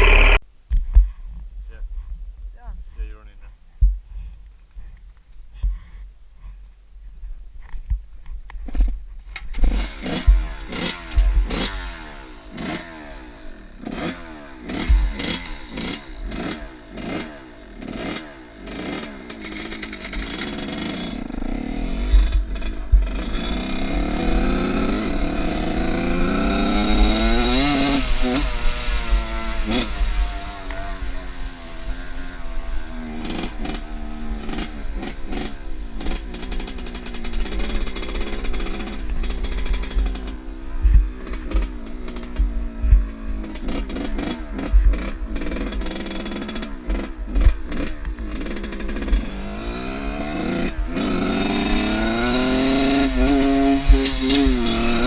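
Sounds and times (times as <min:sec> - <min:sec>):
off-road vehicle engine revving: 0:00.0 - 0:00.4, 0:09.4 - 0:55.0.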